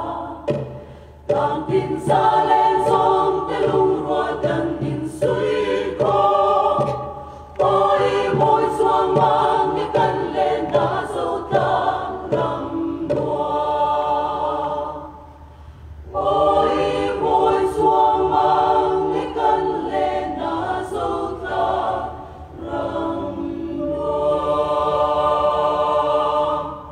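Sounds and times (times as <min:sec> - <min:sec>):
mixed choir singing a cappella: 0:00.0 - 0:26.9.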